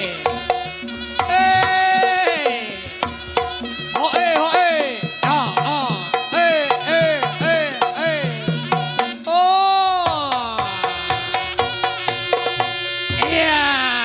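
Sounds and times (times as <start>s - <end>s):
hand-drum strokes: 0.0s - 14.0s.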